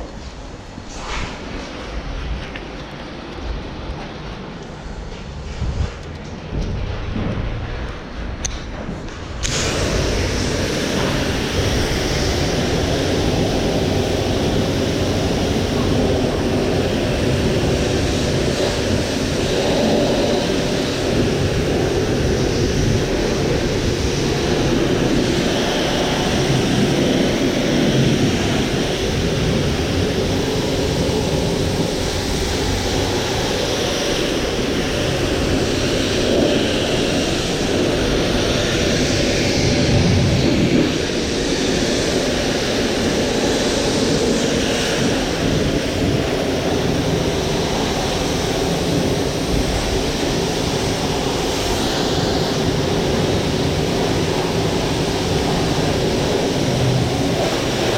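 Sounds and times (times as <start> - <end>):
pressure washer spraying fiberglass: 9.4 - 57.9.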